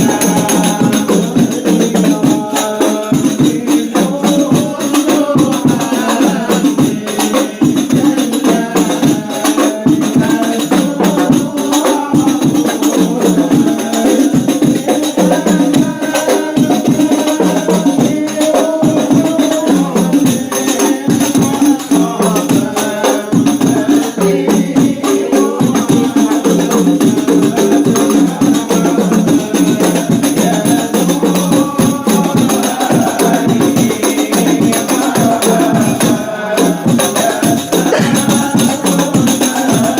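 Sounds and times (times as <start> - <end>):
frame drums beating: 0.0 - 39.9
group chanting in unison: 0.0 - 39.9.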